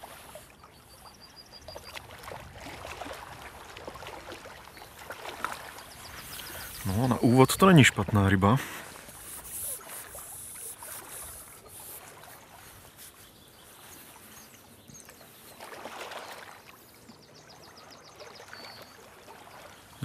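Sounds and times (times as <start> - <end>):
soft water splashing: 0.0 - 20.0.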